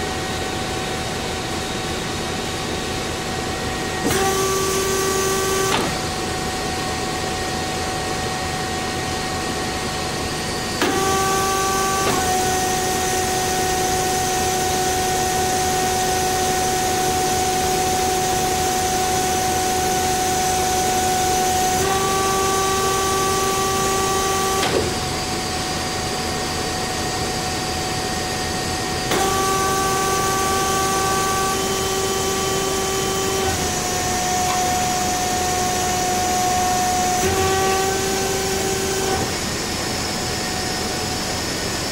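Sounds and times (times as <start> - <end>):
band saw humming and whining: 0.0 - 41.9.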